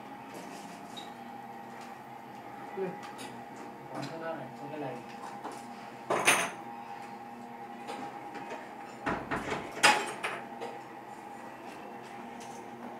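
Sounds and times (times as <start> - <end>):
steady room hum: 0.0 - 12.9.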